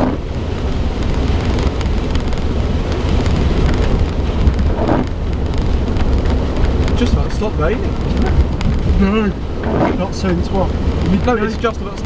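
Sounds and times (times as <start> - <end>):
engine and tyres rumbling: 0.0 - 12.0
rain pattering on car body: 0.0 - 12.0.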